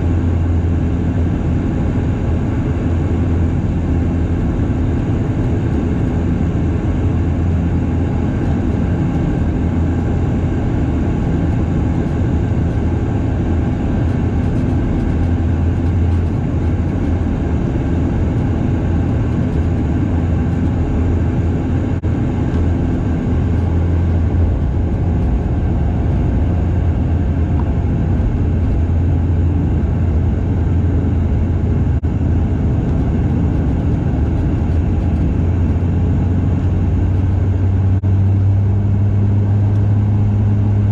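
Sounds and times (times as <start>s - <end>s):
propeller plane cabin drone: 0.0s - 40.9s.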